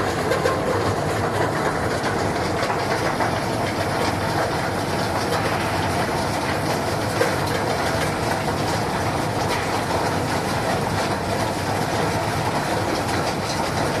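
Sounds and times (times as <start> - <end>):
processing machinery din: 0.0 - 14.0.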